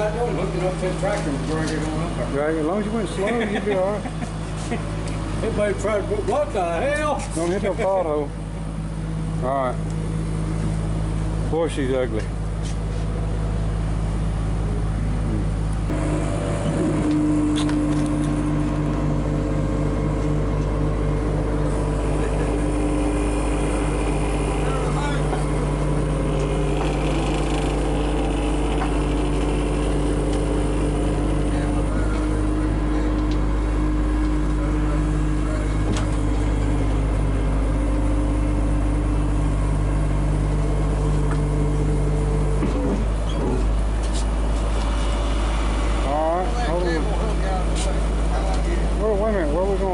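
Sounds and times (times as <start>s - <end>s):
steady hum: 0.0s - 49.9s
vehicle engine throbbing: 0.0s - 49.9s.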